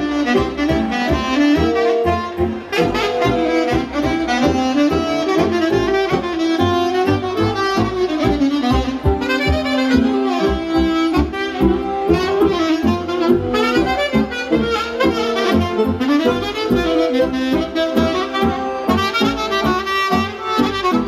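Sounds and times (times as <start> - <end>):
band playing dance music: 0.0 - 21.0
saxophone tune: 0.0 - 21.0.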